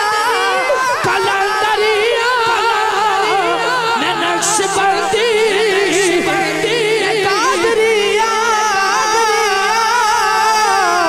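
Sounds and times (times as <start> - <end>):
ornamented devotional melody: 0.0 - 11.0.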